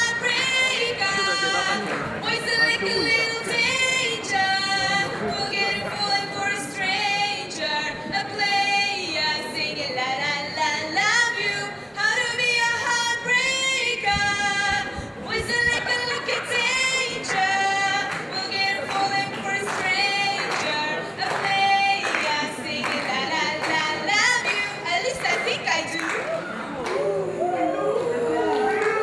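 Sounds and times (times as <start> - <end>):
woman singing into microphone: 0.0 - 25.8.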